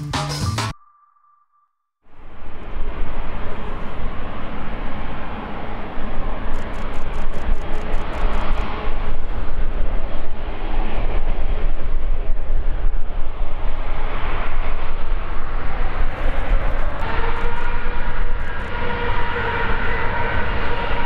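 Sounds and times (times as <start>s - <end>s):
jet engines rumbling and hissing: 2.2s - 21.0s.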